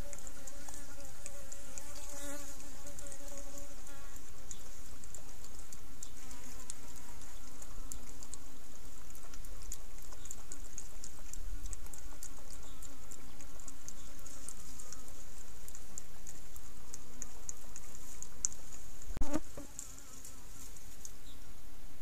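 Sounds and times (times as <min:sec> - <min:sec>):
small irregular ticks and clicks: 0:00.0 - 0:21.4.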